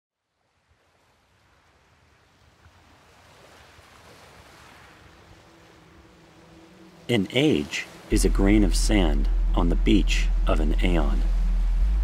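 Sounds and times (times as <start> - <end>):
ocean waves washing on beach: 0.2 - 12.0.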